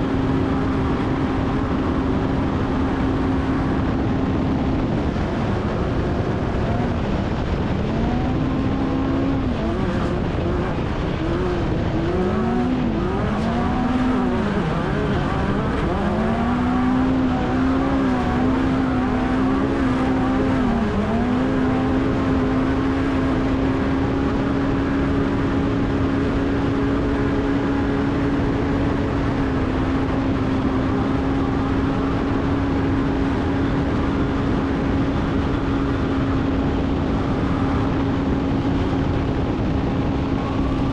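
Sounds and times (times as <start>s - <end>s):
constant rushing noise: 0.0s - 40.9s
race vehicle engine revving: 0.0s - 40.9s.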